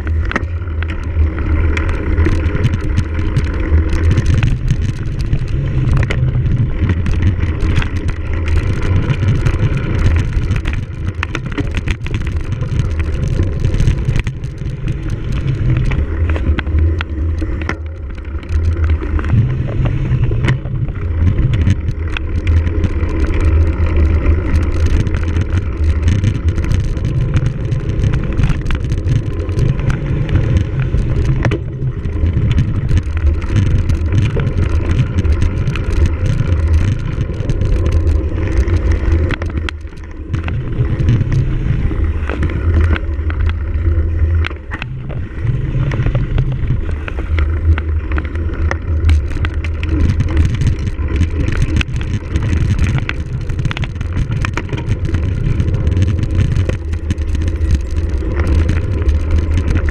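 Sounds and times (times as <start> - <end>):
bike tyre noise: 0.0 - 59.9.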